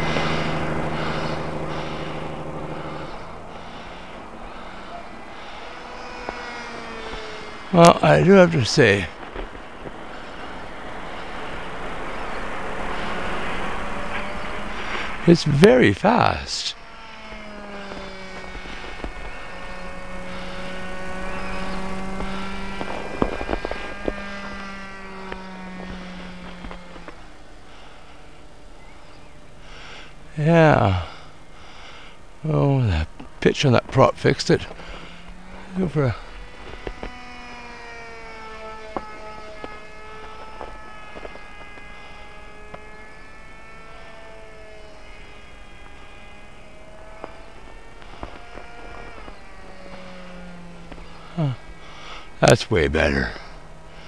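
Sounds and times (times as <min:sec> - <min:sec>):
rc plane motor humming: 0:00.0 - 0:15.8, 0:16.5 - 0:54.0.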